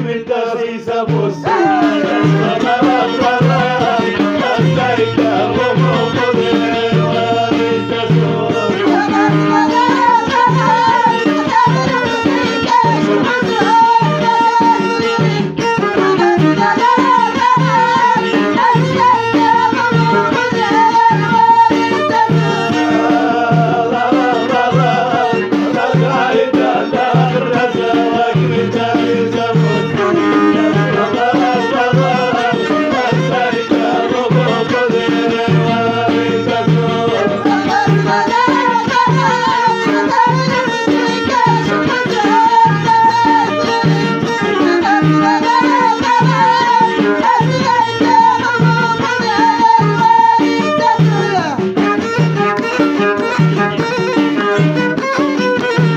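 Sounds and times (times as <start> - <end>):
person singing: 0.0 - 55.9
low drum beat: 1.1 - 55.9
wavering melody: 1.2 - 55.9.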